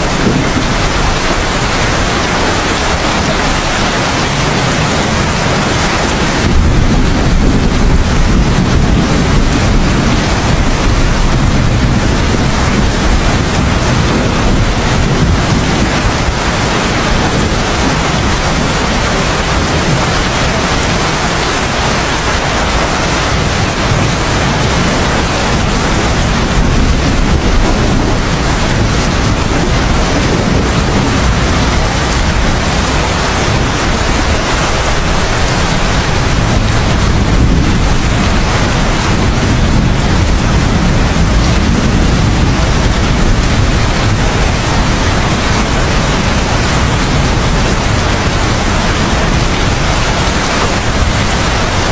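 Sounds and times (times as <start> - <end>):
deep rumble: 0.0 - 51.9
heavy steady rain: 0.0 - 51.9.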